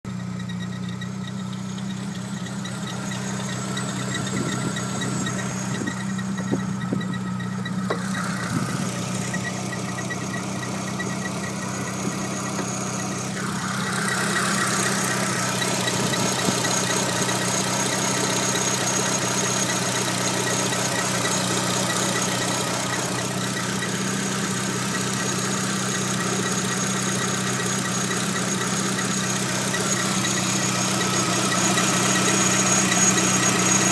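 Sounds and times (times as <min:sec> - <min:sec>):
car engine idling: 0:00.0 - 0:33.9
engine squeal: 0:00.0 - 0:33.9.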